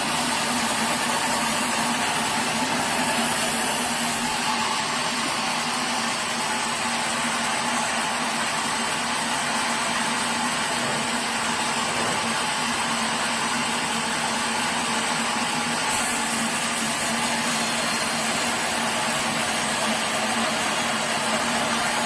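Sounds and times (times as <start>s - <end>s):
sawmill machinery drone: 0.0s - 22.0s.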